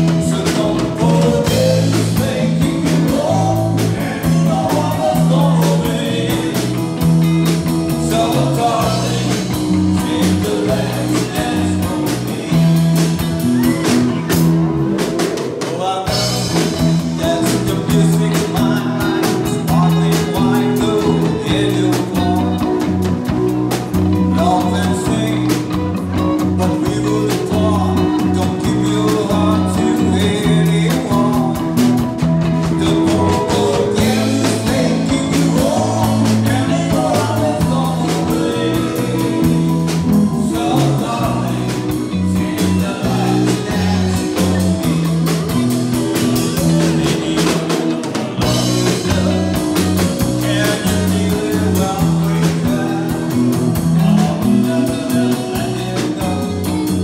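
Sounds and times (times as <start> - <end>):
person singing into a microphone: 0.0 - 14.4, 15.6 - 23.0, 24.2 - 32.0, 32.6 - 45.5, 46.3 - 57.0
bass guitar: 0.0 - 57.0
drums: 0.0 - 57.0
electric guitar: 0.0 - 57.0.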